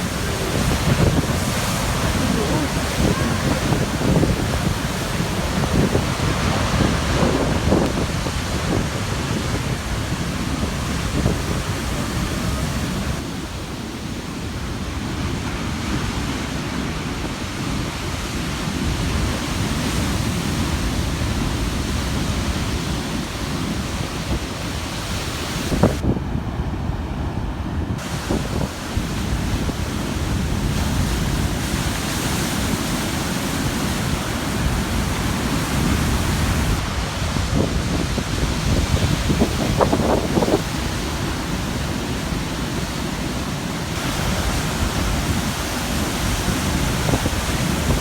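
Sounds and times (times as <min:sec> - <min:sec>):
ocean waves crashing on rocks: 0:00.0 - 0:48.0
wind on microphone: 0:00.0 - 0:48.0.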